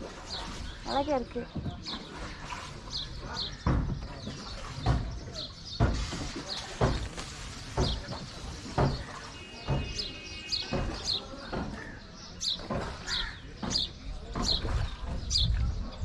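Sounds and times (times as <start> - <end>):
small birds chirping: 0.0 - 16.0
wooden boat hull knocking: 1.4 - 2.2, 3.2 - 16.0.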